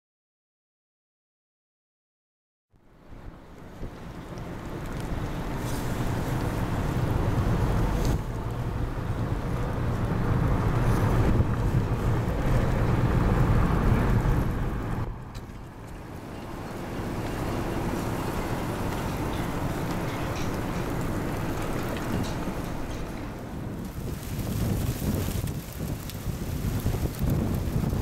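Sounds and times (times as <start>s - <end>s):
strong wind gusting on microphone: 3.1s - 28.0s.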